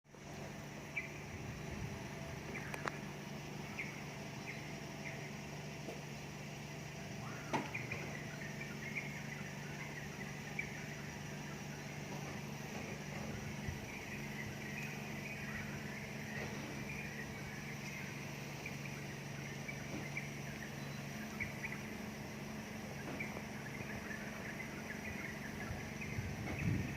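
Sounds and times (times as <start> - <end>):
birds chirping: 0.1 - 26.9
steady low hum: 0.1 - 26.9.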